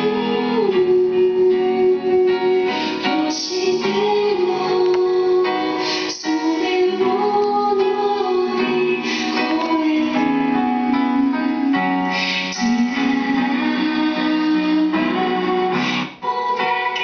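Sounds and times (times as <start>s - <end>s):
instrumental backing: 0.0s - 17.0s
woman singing slow melody: 0.0s - 17.0s.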